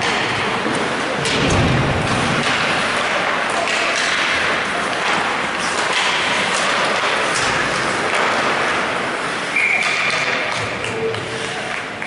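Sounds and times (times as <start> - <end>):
hockey sticks and puck clicking: 0.0 - 12.0.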